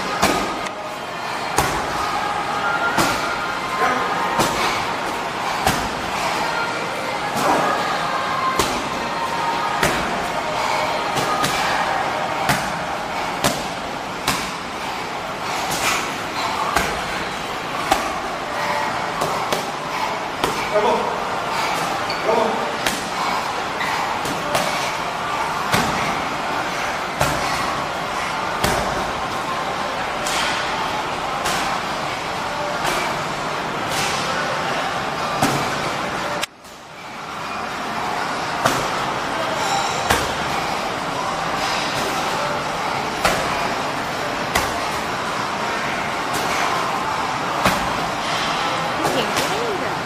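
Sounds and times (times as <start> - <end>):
steady background noise: 0.0 - 50.0.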